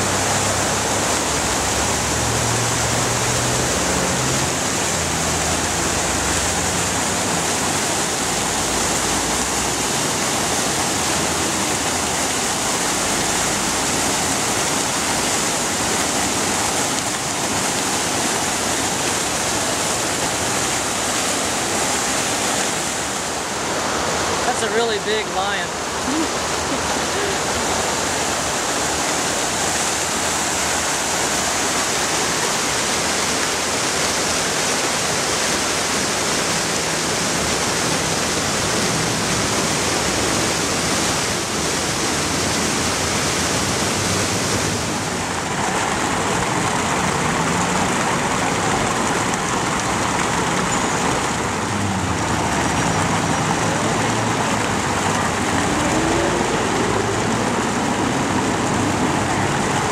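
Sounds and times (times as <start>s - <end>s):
fountain water splashing: 0.0s - 59.9s
passing traffic: 0.0s - 59.9s.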